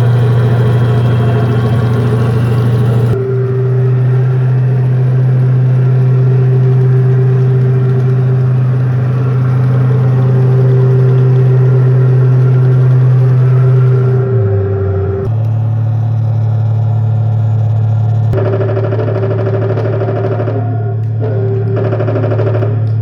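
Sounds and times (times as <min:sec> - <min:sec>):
toy tank engine hum: 0:00.0 - 0:23.0.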